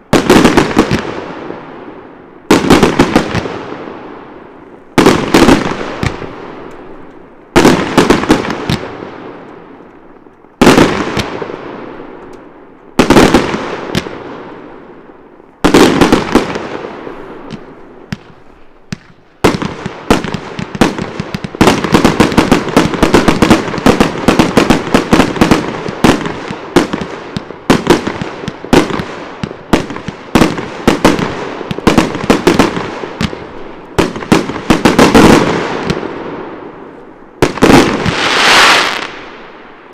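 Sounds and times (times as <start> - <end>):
rapid firework bangs: 0.1 - 1.7, 2.5 - 3.9, 5.0 - 6.6, 7.5 - 9.4, 10.6 - 11.9, 13.0 - 14.6, 15.6 - 36.6, 37.4 - 39.5.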